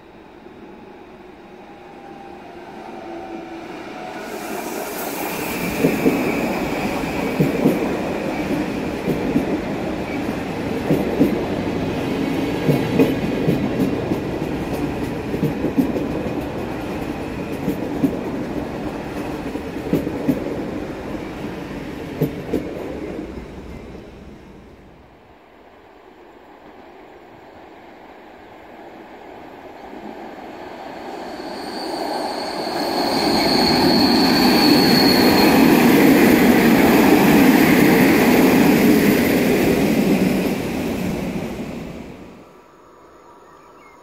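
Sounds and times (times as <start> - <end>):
train rumbling past: 0.0 - 42.6.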